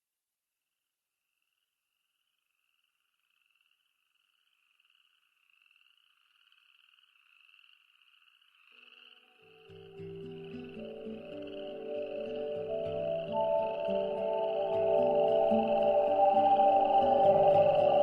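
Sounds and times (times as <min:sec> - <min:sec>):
insects trilling: 0:01.2 - 0:18.0.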